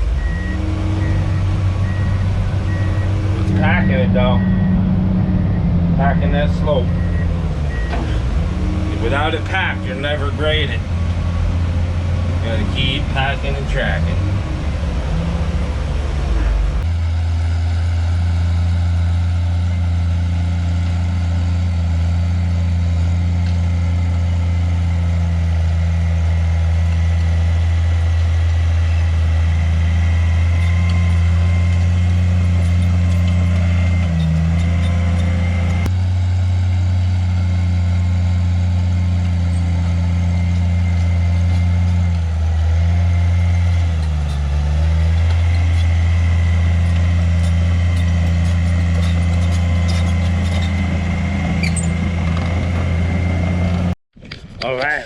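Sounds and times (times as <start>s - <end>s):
diesel engine droning under load: 0.0s - 54.0s.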